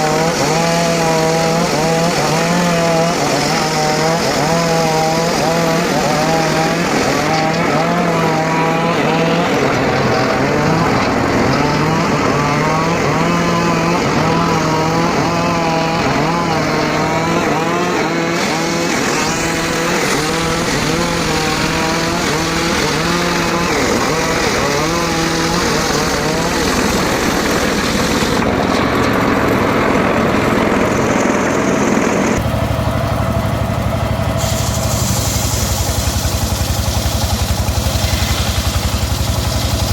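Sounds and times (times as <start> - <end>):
engine-driven circular saw cutting wood: 0.0 - 39.9.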